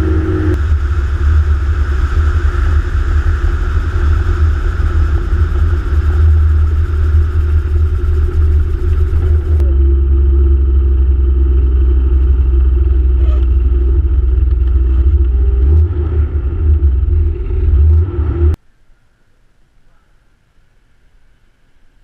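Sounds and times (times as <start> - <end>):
propeller engine rumbling: 0.0 - 18.6.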